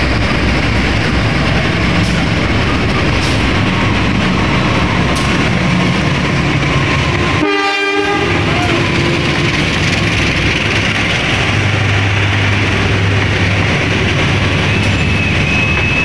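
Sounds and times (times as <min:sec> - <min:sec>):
coaches rolling on rails: 0:00.0 - 0:16.0
locomotive engine rumbling: 0:00.0 - 0:16.0.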